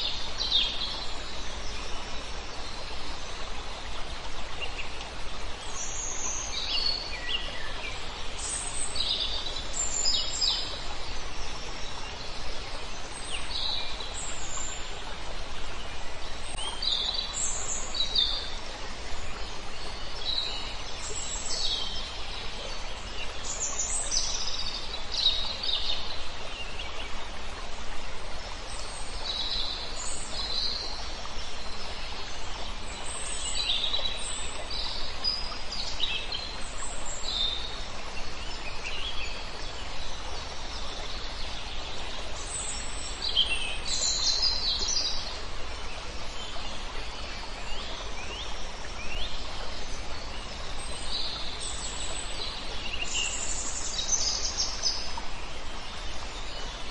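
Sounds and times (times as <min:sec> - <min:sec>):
outdoor background noise: 0:00.0 - 0:56.9.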